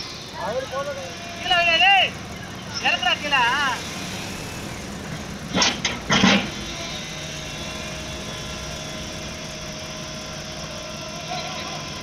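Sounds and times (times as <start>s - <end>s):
excavator engine idling: 0.0s - 12.0s.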